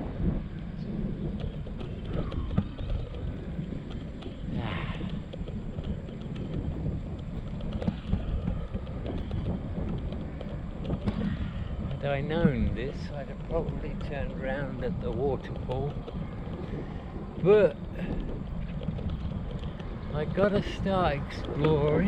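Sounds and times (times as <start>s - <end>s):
bike clicks and rattles: 0.0s - 22.0s
wind buffeting microphone: 0.0s - 22.0s.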